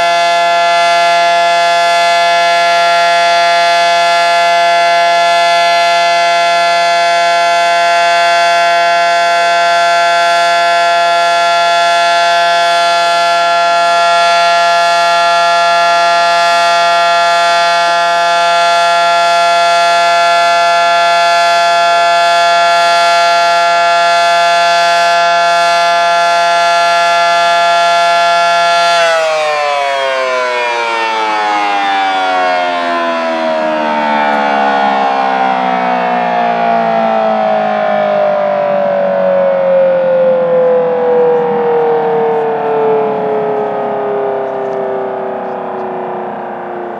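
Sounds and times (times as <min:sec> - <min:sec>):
warning siren winding down: 0:00.0 - 0:46.9.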